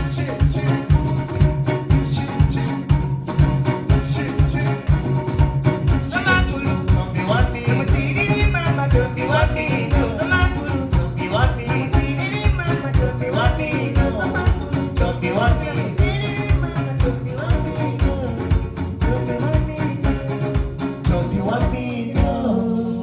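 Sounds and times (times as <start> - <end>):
hand percussion: 0.0 - 23.0
person singing: 0.0 - 23.0
plucked string instruments: 0.0 - 23.0.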